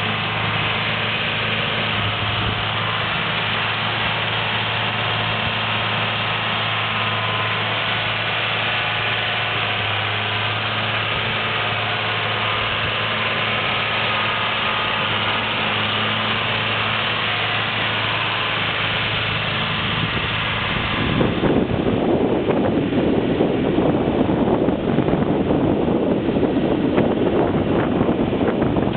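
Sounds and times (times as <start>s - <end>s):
rushing wind-like noise: 0.0s - 28.9s
tractor diesel engine running: 0.0s - 28.9s.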